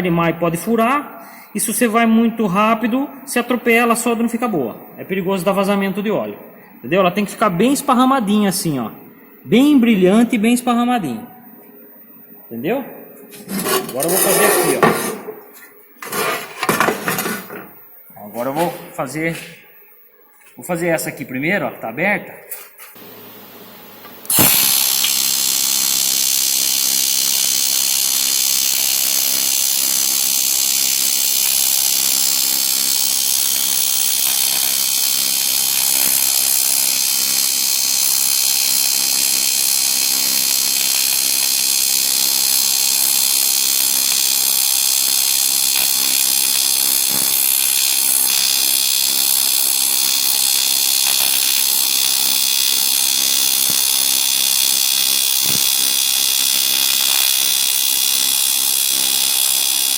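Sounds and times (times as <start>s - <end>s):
welding arc buzzing: 0.5s - 11.6s, 13.2s - 19.6s, 22.7s - 59.9s.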